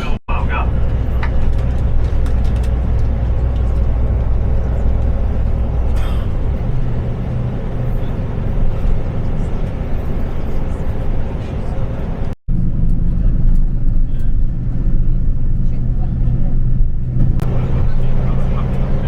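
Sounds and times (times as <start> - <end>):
coach engine drone: 0.0 - 19.0
road noise: 0.0 - 19.0.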